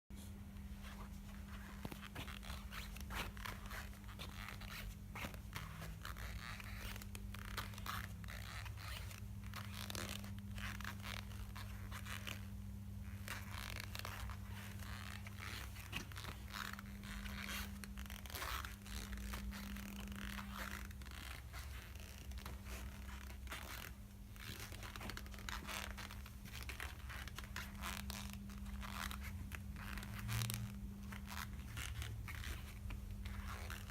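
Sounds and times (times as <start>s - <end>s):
steady low hum: 0.2s - 33.9s
sneakers squeaking and scraping: 0.8s - 12.4s, 13.3s - 33.9s.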